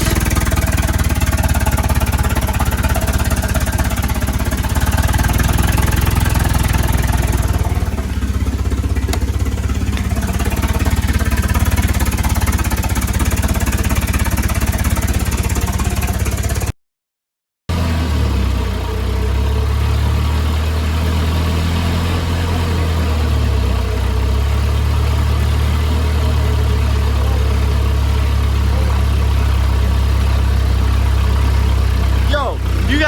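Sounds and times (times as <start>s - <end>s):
car engine idling: 0.0s - 16.7s, 17.8s - 33.0s.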